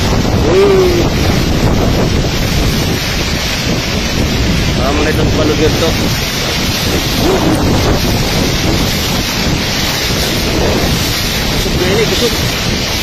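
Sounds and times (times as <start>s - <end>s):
floodwater flowing: 0.0s - 13.0s
wind buffeting microphone: 0.0s - 13.0s.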